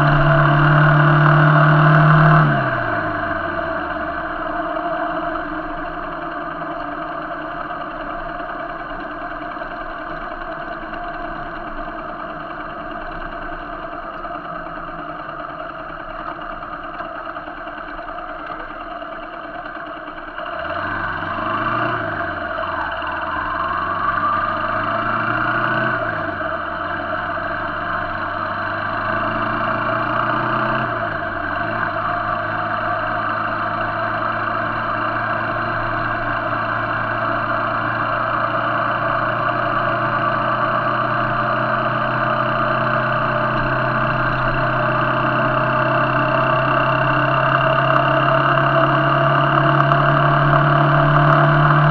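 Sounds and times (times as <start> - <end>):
deeper engine note revving: 0.0 - 17.7, 20.3 - 51.9
motorcycle engine cruising: 0.0 - 51.9.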